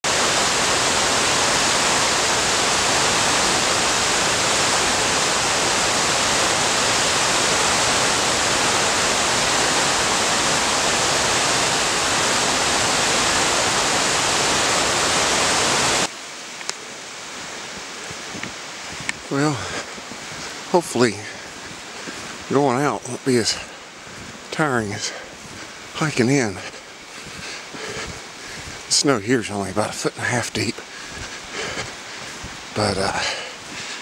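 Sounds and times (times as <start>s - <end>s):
rushing creek water: 0.0s - 34.0s.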